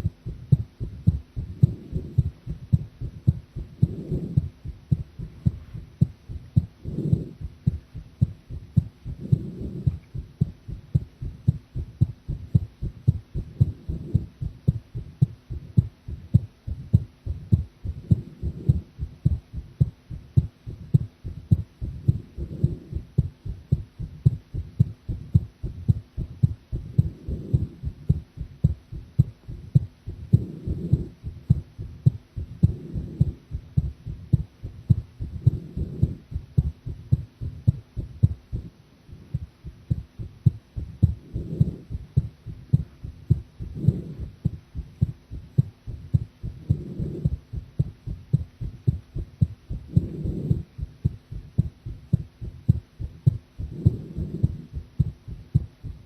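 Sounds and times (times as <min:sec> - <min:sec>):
heartbeat lub-dub beats: 0:00.0 - 0:56.0.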